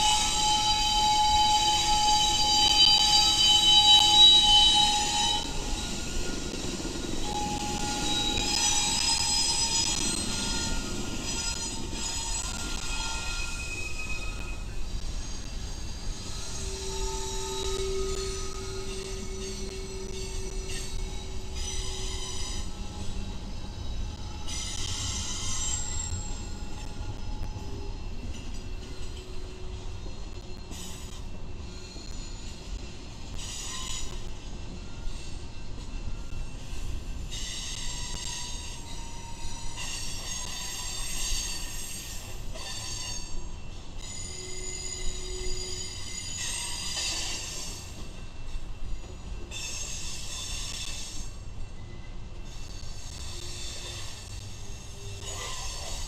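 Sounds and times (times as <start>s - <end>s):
train wheels squealing: 0.0s - 56.0s.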